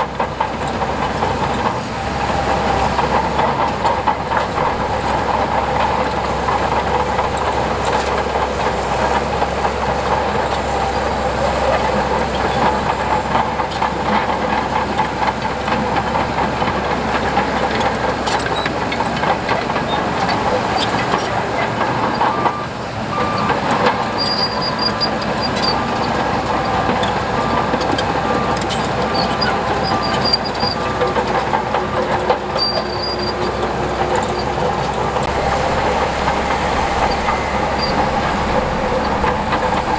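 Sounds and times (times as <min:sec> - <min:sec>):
bulldozer engine running: 0:00.0 - 0:39.9
tracks rattling: 0:00.0 - 0:39.9.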